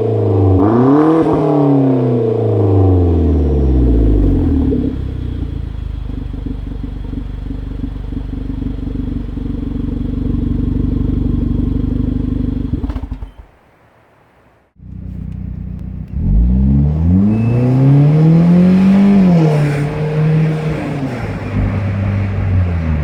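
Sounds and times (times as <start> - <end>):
car engine idling: 2.5 - 14.1, 14.8 - 23.0.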